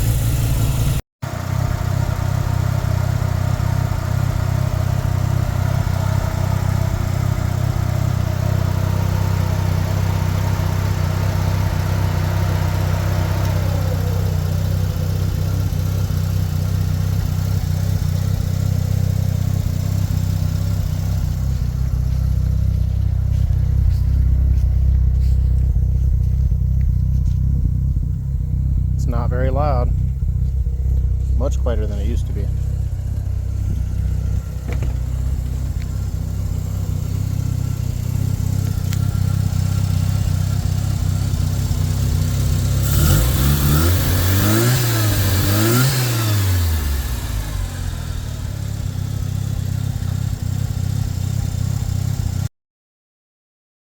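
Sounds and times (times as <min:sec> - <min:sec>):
rotary engine idling: 0:00.0 - 0:52.3.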